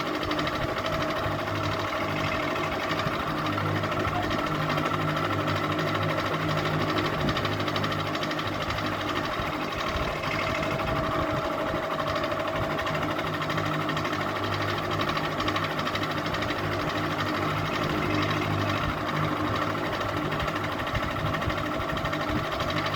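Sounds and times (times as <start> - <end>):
ceiling fan humming and rattling: 0.0 - 22.9.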